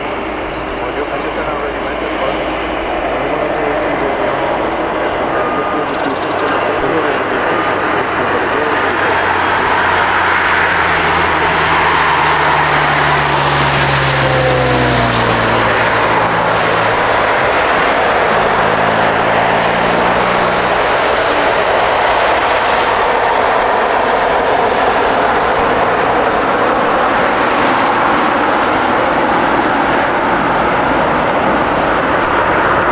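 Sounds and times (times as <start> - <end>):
jet engine roar: 0.0 - 32.9.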